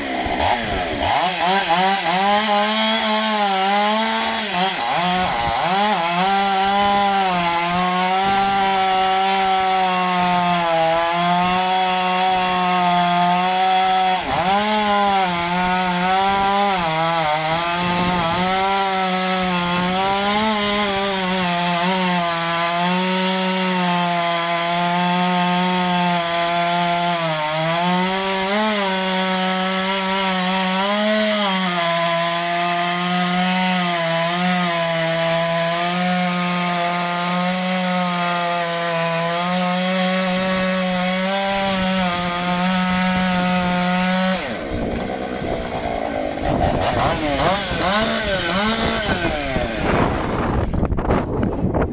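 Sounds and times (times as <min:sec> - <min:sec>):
chainsaw cutting logs: 0:00.0 - 0:51.9.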